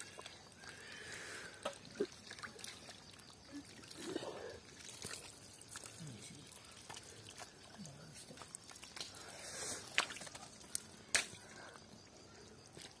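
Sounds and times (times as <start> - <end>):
wet squelching and slithering: 0.0 - 13.0.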